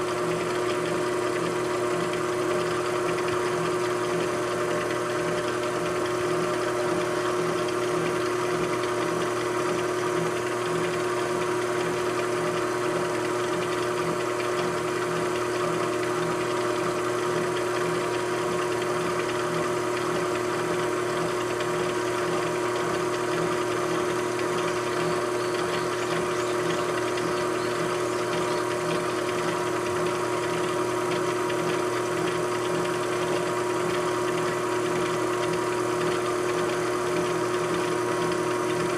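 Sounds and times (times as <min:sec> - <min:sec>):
machine tool motor hum: 0:00.0 - 0:38.9.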